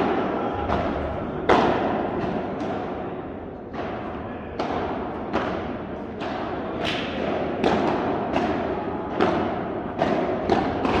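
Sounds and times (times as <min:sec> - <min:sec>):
ball struck by racket: 0:00.7 - 0:11.0.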